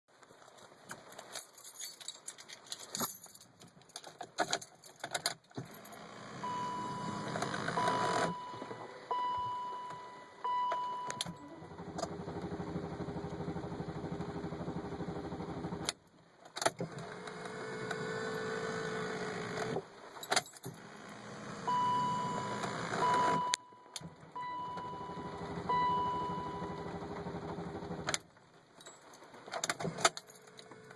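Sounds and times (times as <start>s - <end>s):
car engine cranking: 4.5s - 16.0s, 16.6s - 30.9s.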